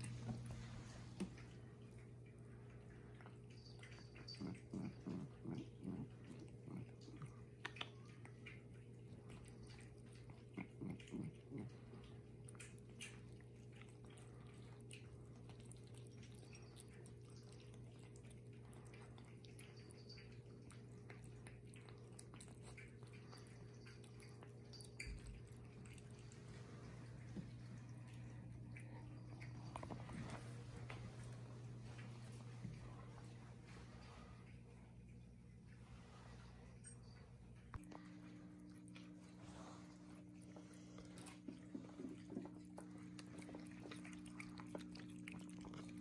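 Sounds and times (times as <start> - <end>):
cat chewing and lapping food: 0.0 - 46.0
steady low hum: 0.0 - 46.0.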